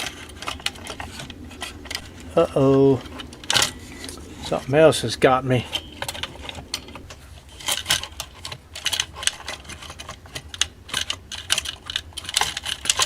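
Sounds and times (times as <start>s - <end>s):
small metallic clicks and rattles: 0.0s - 13.0s.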